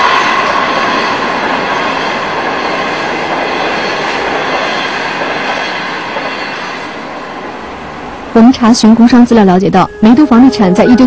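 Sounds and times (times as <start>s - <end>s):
train passing on elevated track: 0.0s - 11.0s.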